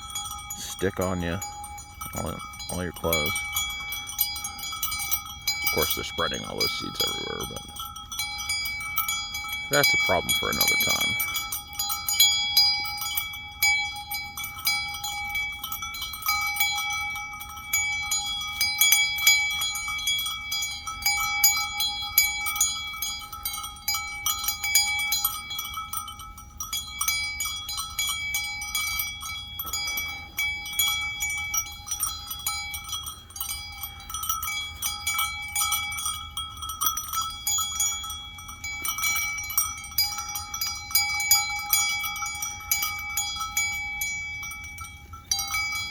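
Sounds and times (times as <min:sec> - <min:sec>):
metal livestock bell clanking: 0:00.0 - 0:45.9.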